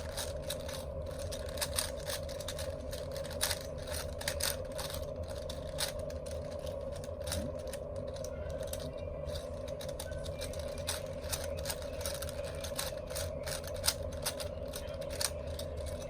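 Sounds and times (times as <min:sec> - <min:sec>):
steady background hum: 0:00.0 - 0:16.0
plastic puzzle cube clicking: 0:00.1 - 0:16.0.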